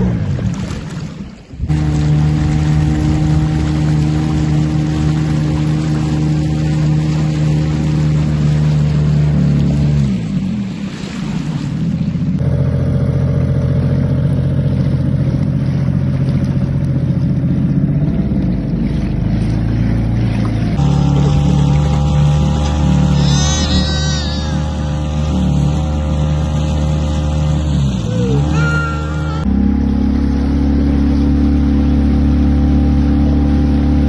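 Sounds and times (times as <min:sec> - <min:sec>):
motorboat engine running: 0:00.0 - 0:34.0.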